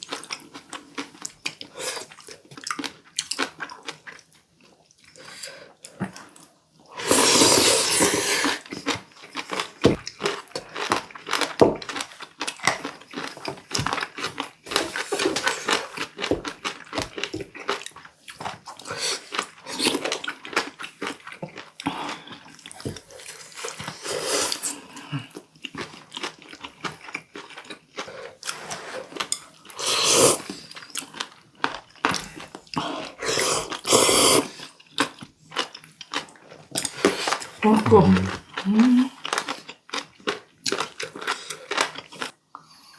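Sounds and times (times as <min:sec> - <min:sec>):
wet chewing and crunching: 0:00.0 - 0:06.9, 0:08.0 - 0:42.7.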